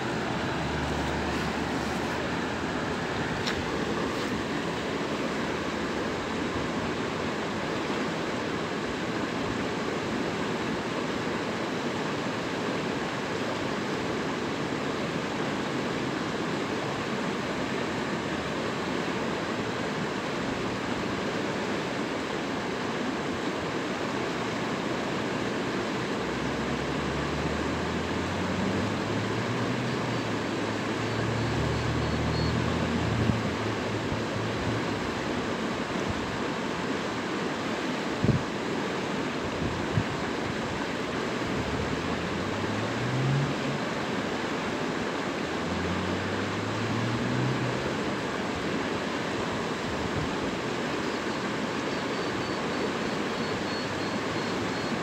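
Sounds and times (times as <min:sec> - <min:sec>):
water rushing in rapids: 0:00.0 - 0:55.0.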